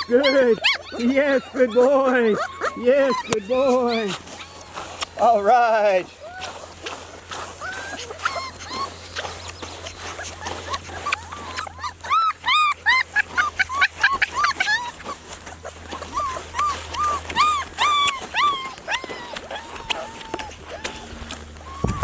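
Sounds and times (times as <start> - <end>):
puppies whimpering and yelping: 0.0 - 22.0.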